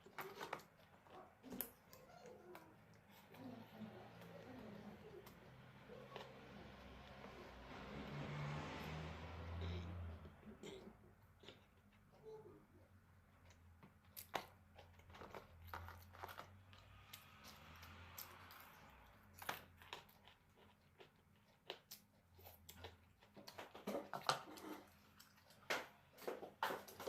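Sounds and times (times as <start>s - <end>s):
faint clicks and smacks: 0.0s - 7.9s, 8.8s - 27.0s
person chewing food: 0.0s - 12.2s, 12.8s - 27.0s.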